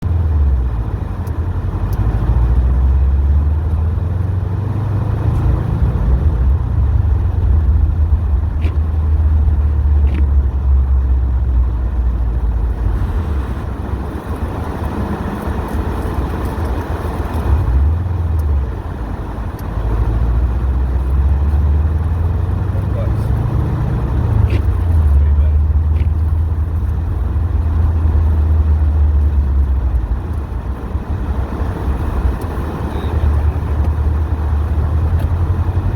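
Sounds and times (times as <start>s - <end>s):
car engine droning: 0.0s - 35.9s.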